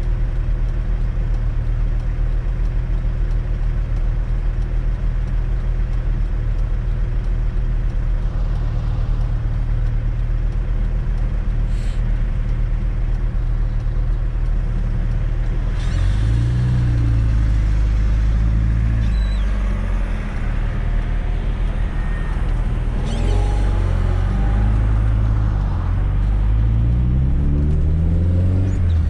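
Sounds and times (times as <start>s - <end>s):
car engine accelerating: 5.5s - 29.0s.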